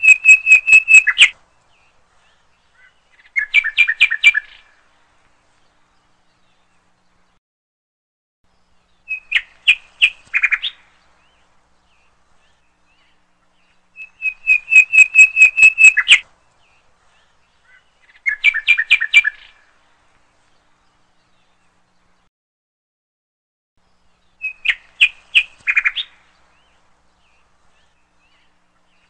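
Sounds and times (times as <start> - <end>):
bird chirping: 0.0 - 7.4, 8.5 - 22.3, 23.8 - 29.0.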